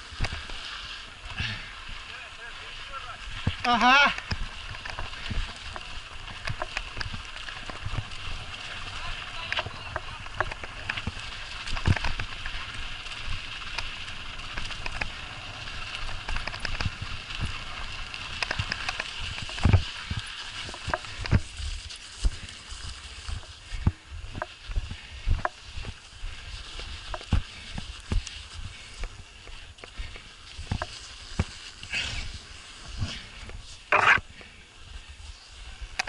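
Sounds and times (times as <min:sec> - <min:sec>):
bike tyres hissing on snow: 0:00.0 - 0:36.0.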